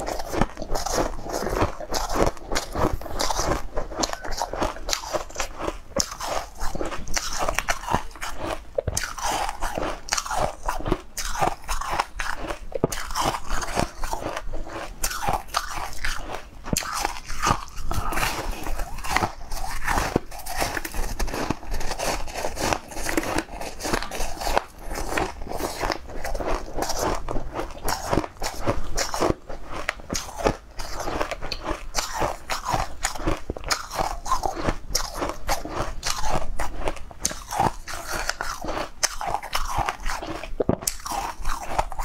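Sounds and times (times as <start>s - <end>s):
crunchy food chewing: 0.0s - 42.0s.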